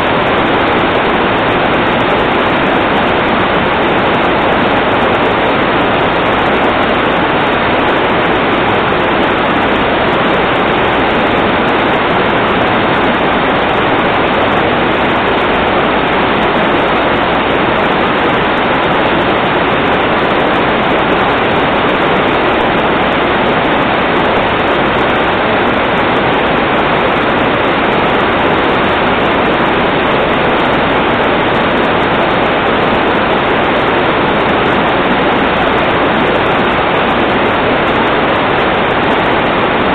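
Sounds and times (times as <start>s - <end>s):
loud rush of water: 0.0s - 39.9s.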